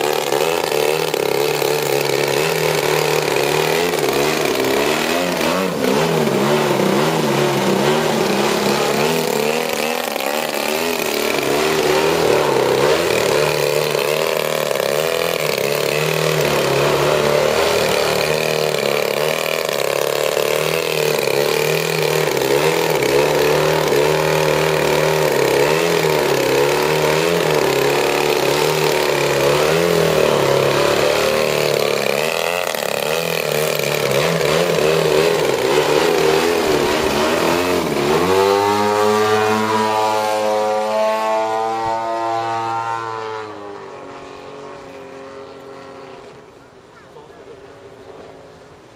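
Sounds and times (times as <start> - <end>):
model plane engine running: 0.0 - 47.2.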